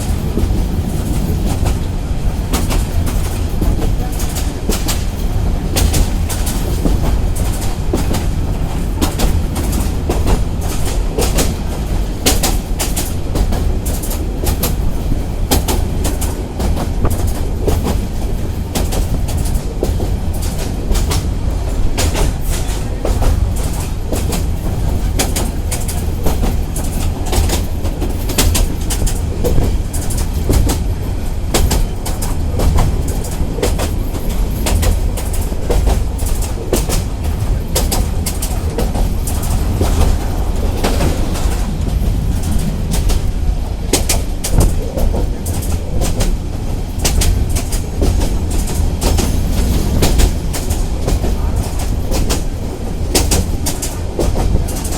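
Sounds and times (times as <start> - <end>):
train rumbling: 0.0 - 54.9
wheels clacking over track: 0.0 - 54.9.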